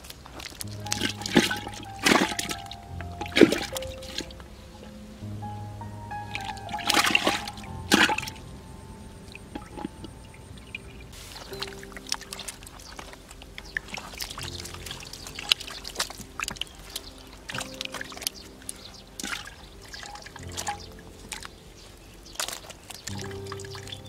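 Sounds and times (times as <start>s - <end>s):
water splashing and pouring: 0.0s - 4.9s, 6.1s - 8.6s, 9.2s - 24.0s
music with held notes: 0.6s - 24.0s.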